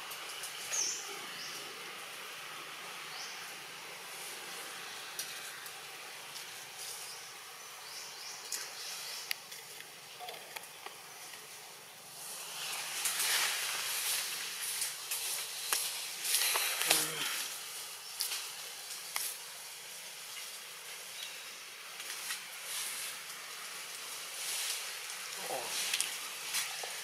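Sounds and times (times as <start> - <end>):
background hiss: 0.0 - 27.0
crackling hiss: 0.0 - 27.0.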